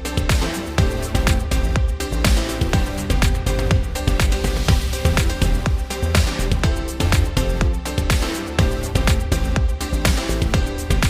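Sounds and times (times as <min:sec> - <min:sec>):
electronic music: 0:00.0 - 0:11.0
kick-drum beat: 0:00.0 - 0:11.0.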